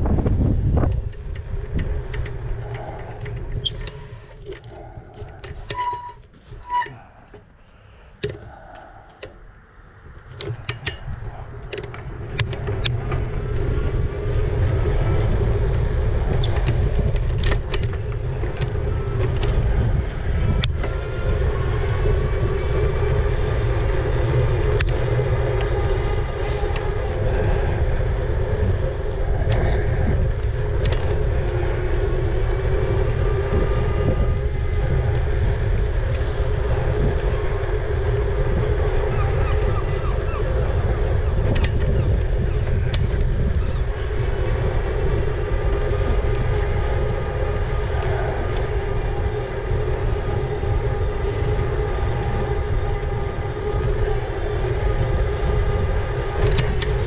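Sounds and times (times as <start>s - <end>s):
bike clicks: 0.0s - 57.0s
wind buffeting microphone: 0.0s - 57.0s.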